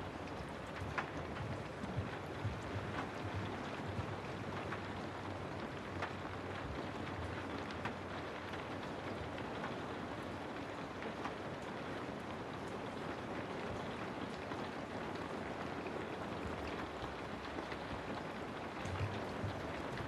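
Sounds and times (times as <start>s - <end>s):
raindrop ticks: 0.0s - 20.0s
steady rain hiss: 0.0s - 20.0s.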